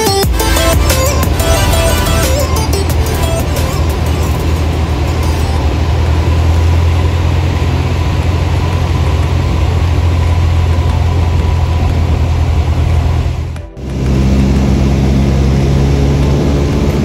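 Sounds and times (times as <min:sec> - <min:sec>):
airplane engine and propeller droning: 0:00.0 - 0:17.0.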